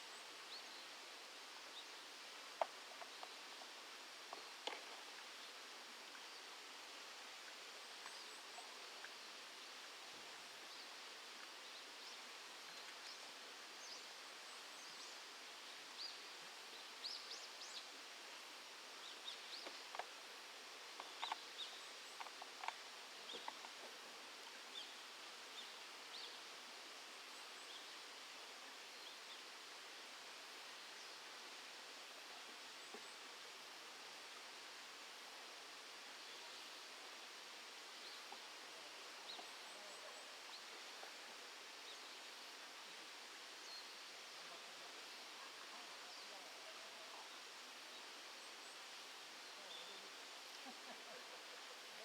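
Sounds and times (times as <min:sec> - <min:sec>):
steady outdoor hiss: 0:00.0 - 0:52.0.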